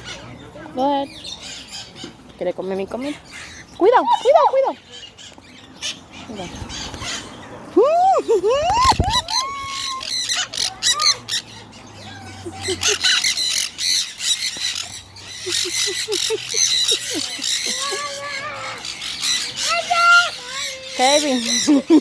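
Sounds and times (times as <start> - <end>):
parrots screeching and squawking: 1.1 - 2.0, 3.0 - 7.5, 8.5 - 22.0.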